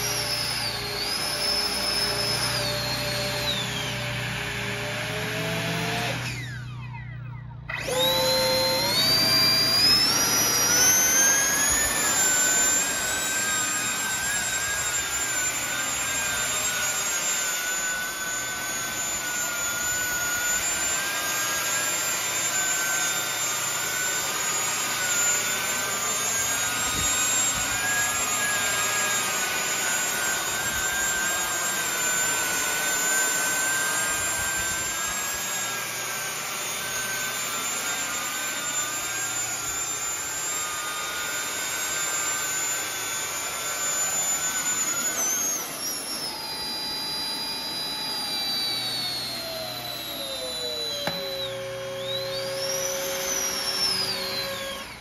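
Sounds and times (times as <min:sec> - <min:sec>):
electric ducted fans whining: 0:00.0 - 0:55.0.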